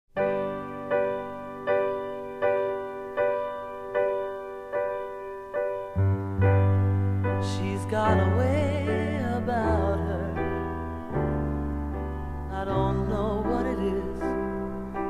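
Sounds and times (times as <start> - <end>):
deep piano bass notes: 0.1 - 15.0
slow piano ballad chords: 0.1 - 15.0.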